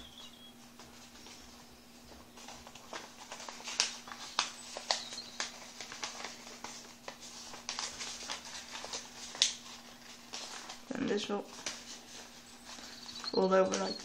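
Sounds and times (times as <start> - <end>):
faint steady hum: 0.0 - 14.0
paper folding crackles: 0.0 - 14.0.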